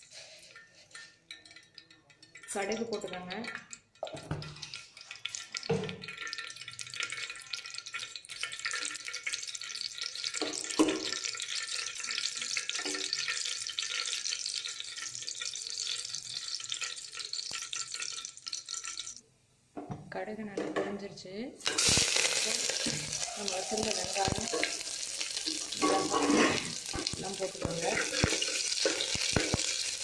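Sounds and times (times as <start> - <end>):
seeds spluttering in hot oil: 0.0 - 19.2, 21.6 - 30.0.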